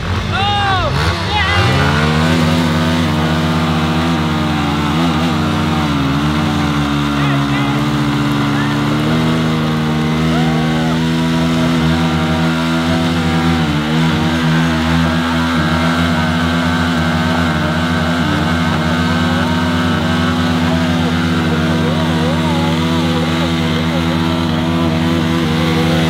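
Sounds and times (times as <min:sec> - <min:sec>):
motorcycle engines at high revs: 0:00.0 - 0:26.0
tyres spinning in loose dirt: 0:00.0 - 0:26.0.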